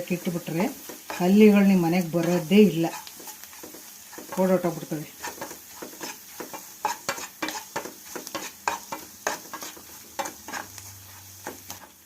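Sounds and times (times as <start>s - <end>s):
paste sizzling in a pan: 0.0s - 12.0s
utensil stirring and scraping: 0.0s - 12.0s.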